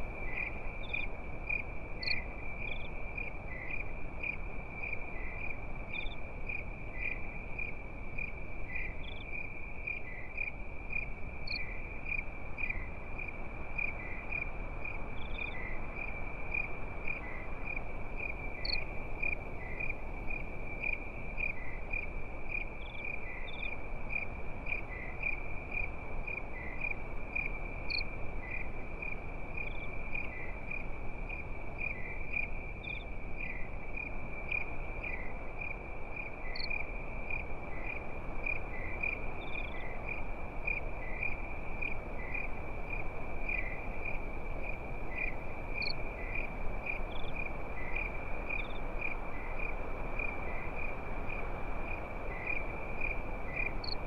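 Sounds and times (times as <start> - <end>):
crickets chirping: 0.0 - 54.0
insects chirping high: 0.0 - 54.0
steady low hiss: 0.0 - 54.0.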